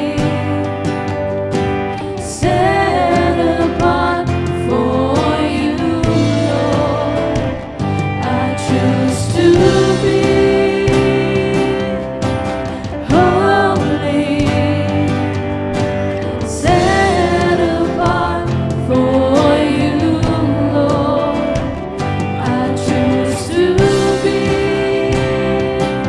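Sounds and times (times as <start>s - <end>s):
instrumental accompaniment: 0.0s - 26.0s
person singing: 0.0s - 26.0s.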